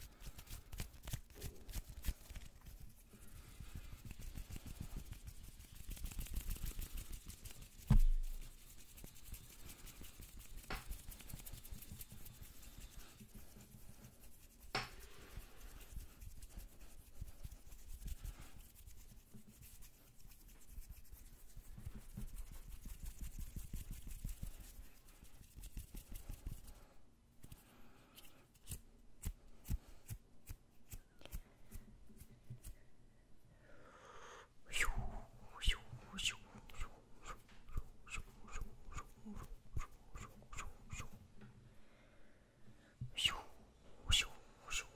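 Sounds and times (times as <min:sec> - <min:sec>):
hands rubbing near microphone: 0:00.0 - 0:32.8, 0:34.8 - 0:41.3.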